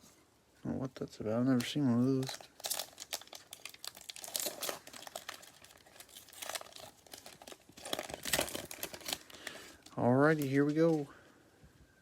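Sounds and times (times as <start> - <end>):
plastic wrapper crinkling and tearing: 1.0 - 11.1.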